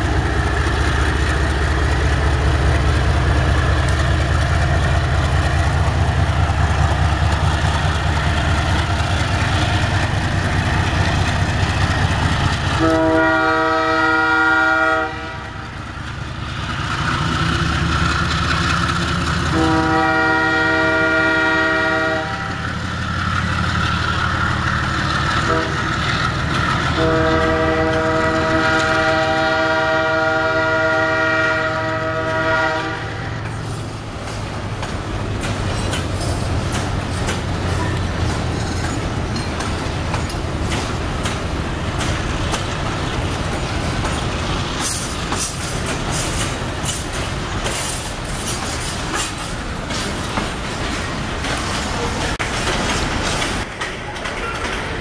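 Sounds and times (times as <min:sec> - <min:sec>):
diesel locomotives rumbling: 0:00.0 - 0:55.0.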